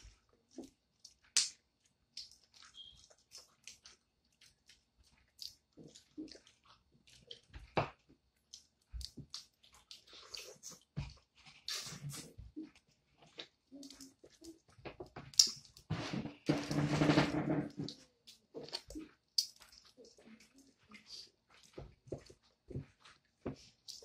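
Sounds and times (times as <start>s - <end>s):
chewing: 0.0s - 15.9s, 17.7s - 24.0s.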